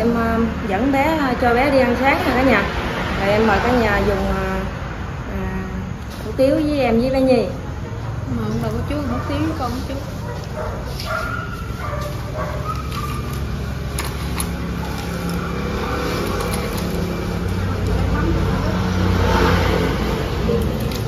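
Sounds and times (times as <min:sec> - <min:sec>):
vehicle engine rumble: 0:01.0 - 0:21.0.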